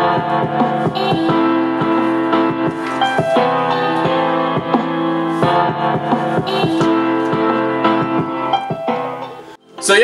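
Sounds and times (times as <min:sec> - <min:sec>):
instrumental music from speaker: 0:00.0 - 0:10.0.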